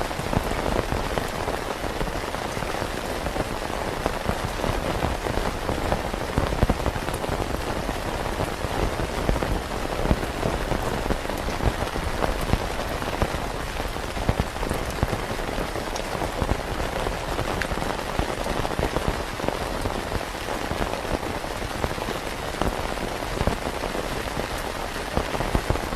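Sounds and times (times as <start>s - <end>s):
rain pattering on a tent: 0.0s - 25.9s.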